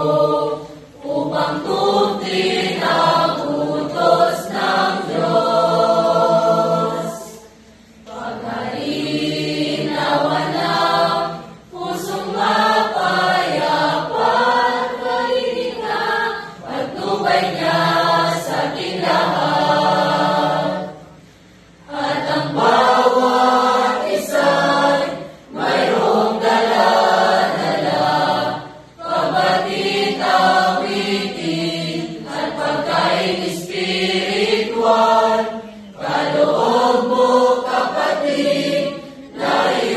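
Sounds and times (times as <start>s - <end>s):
mixed choir singing a hymn: 0.0s - 39.9s.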